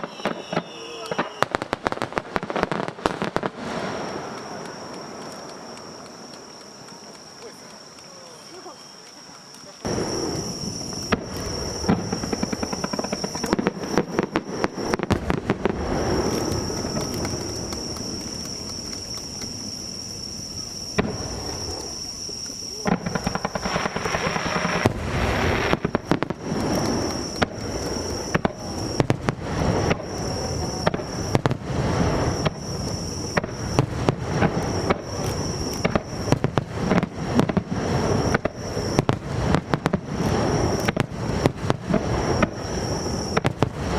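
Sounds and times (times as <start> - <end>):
heavy fireworks booms: 0.0 - 6.6, 9.8 - 43.9
fireworks bursting and crackling: 0.0 - 43.9.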